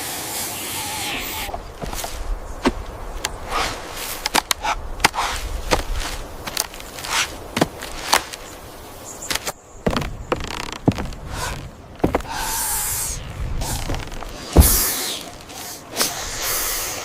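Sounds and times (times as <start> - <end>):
rustling: 1.5 - 16.2.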